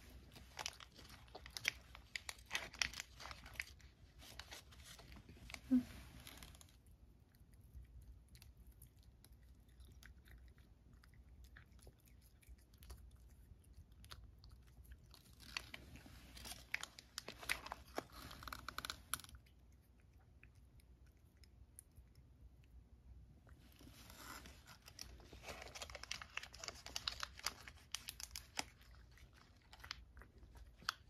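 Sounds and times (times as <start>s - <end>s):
cat crunching dry treats: 0.0s - 22.4s, 23.4s - 31.0s.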